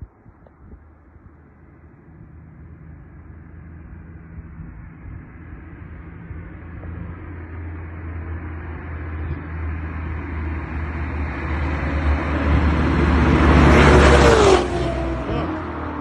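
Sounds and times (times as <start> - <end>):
car engine accelerating: 1.8 - 16.0.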